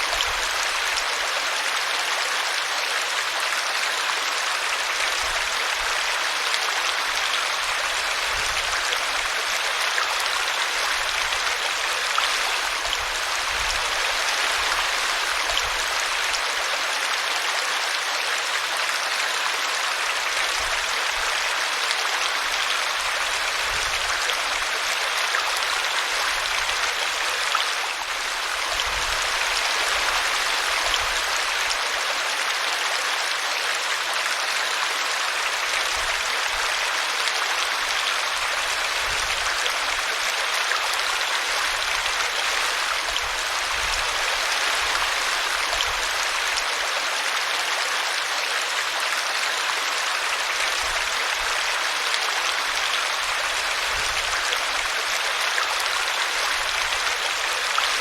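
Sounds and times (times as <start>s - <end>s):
brook water rushing: 0.0s - 58.0s.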